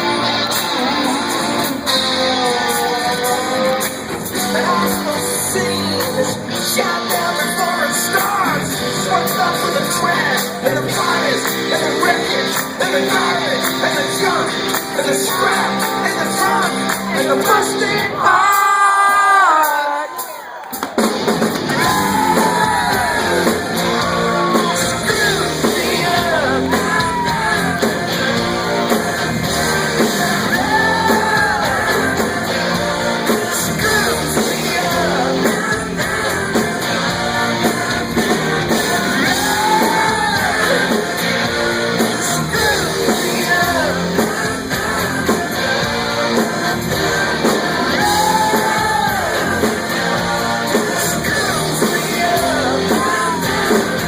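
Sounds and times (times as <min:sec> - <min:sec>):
man singing: 0:00.0 - 0:20.4, 0:21.7 - 0:54.0
rock band playing: 0:00.0 - 0:54.0.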